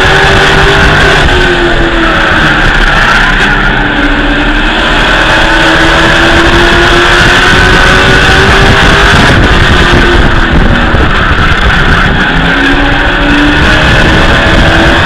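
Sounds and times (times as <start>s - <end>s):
race truck engine at speed: 0.0s - 15.0s.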